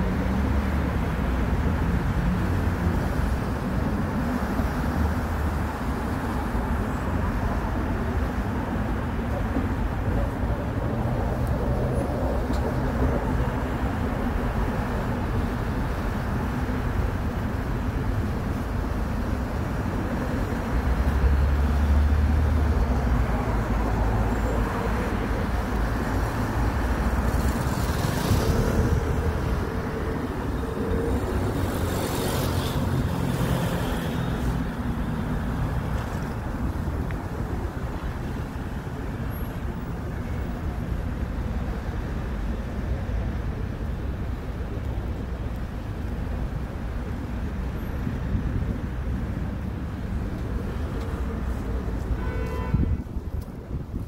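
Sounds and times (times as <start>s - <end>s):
traffic on wet street: 0.0s - 54.0s.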